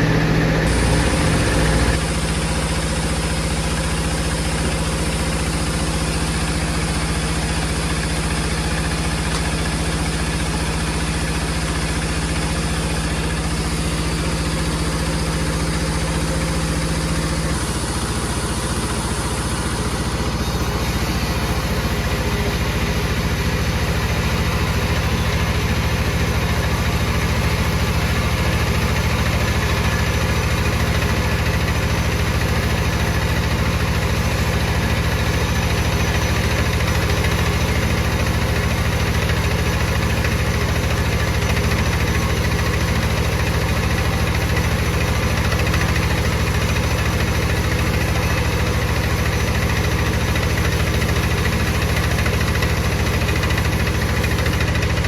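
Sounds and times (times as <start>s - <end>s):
wood-cutting saw droning: 0.0s - 55.0s.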